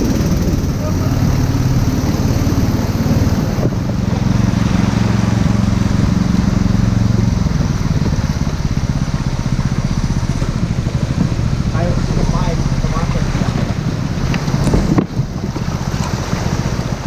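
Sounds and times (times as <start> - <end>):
outboard motor running: 0.0 - 17.0
river water rushing: 0.0 - 17.0.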